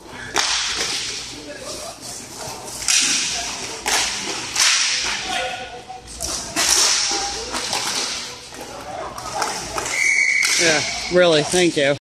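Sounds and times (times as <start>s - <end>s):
hockey sticks and puck cracking: 0.0s - 11.8s.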